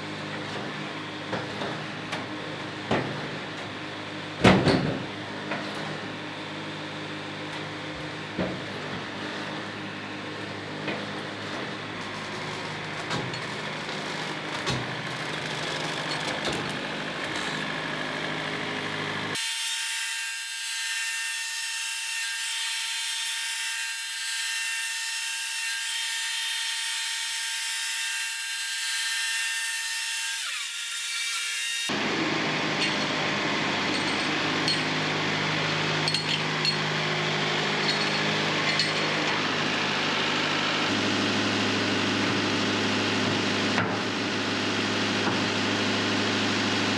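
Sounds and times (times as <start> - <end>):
band saw cutting log: 0.1 - 46.9.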